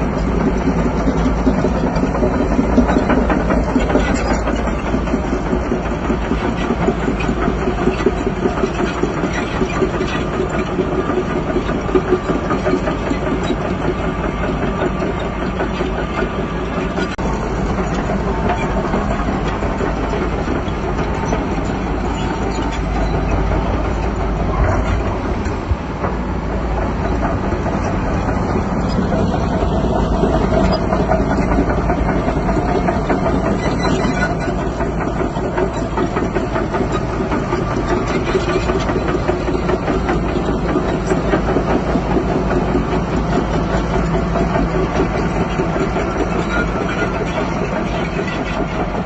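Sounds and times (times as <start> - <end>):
bulldozer diesel engine running: 0.0 - 49.0
steel tracks clattering: 0.0 - 49.0.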